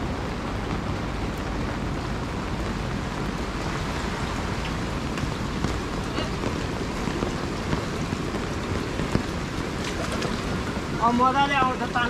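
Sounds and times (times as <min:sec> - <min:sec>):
steady rain hiss: 0:00.0 - 0:12.0
rain drop ticks: 0:00.2 - 0:12.0.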